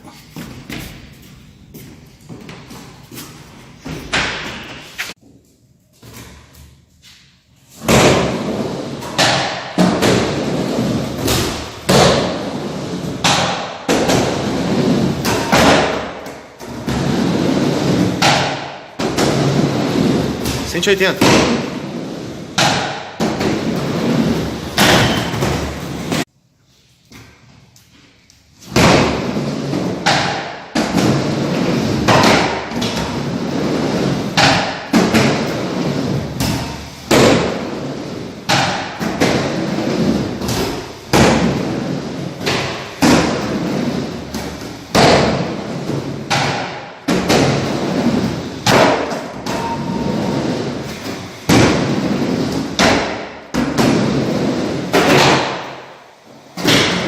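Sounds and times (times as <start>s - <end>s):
skateboard hitting ground: 7.8s - 26.3s, 28.7s - 55.9s, 56.5s - 57.0s
skateboard wheels rolling: 7.9s - 20.6s, 21.2s - 26.3s, 28.7s - 57.0s.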